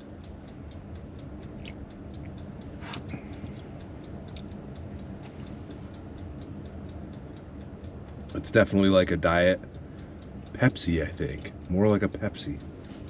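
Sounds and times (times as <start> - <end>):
light regular ticking: 0.0 - 13.0
low mechanical hum: 0.0 - 13.0.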